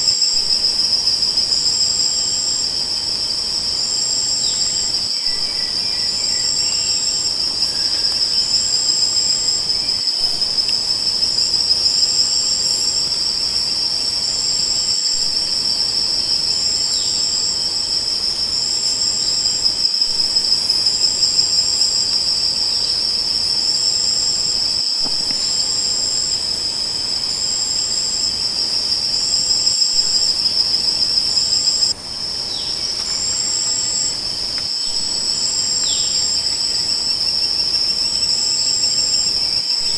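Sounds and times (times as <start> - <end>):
crickets chirping: 0.0 - 39.9
high insect call pulsing: 0.0 - 39.9.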